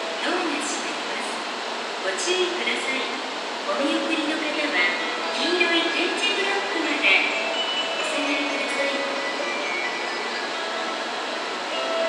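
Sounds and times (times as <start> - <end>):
train fans whirring hiss: 0.0 - 12.0.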